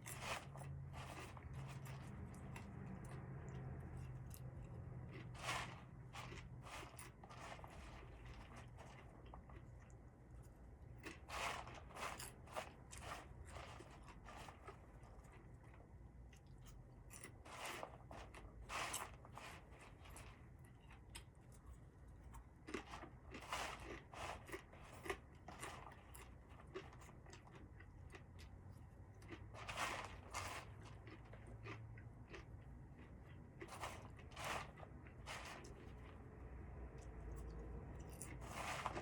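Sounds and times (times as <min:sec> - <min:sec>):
faint crunching and rustling: 0:00.0 - 0:39.0.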